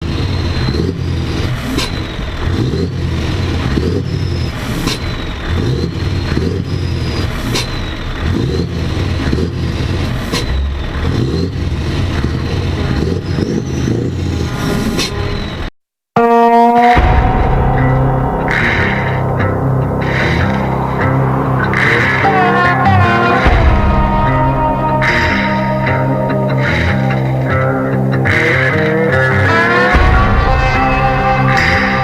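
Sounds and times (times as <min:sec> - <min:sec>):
truck engines rumbling and revving: 0:00.0 - 0:15.7, 0:16.3 - 0:32.0.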